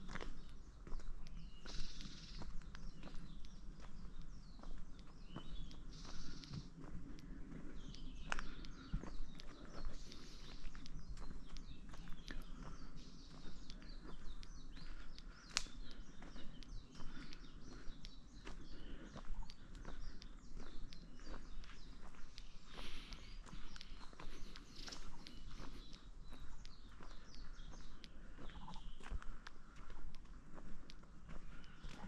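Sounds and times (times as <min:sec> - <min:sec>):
birds chirping and singing: 0:00.0 - 0:32.0
footsteps on forest trail: 0:00.0 - 0:32.0.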